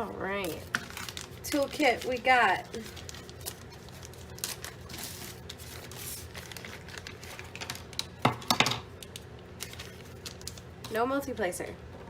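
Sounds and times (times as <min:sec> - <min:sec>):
plastic packaging crinkling: 0:00.3 - 0:11.0.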